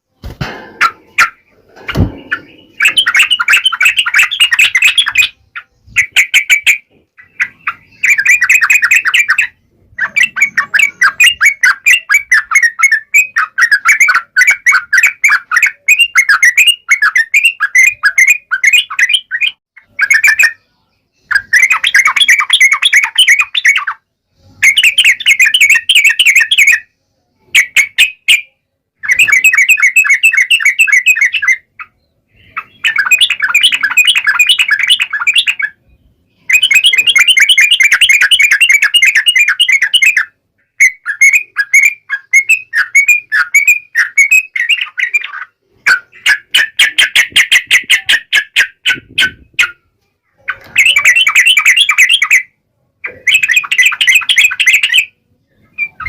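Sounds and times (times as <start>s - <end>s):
bird chattering song: 0.2s - 49.8s, 50.4s - 56.0s.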